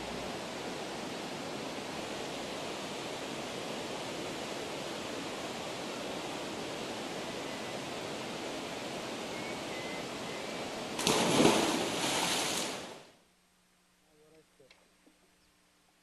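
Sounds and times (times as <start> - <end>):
water rushing: 0.0 - 13.1.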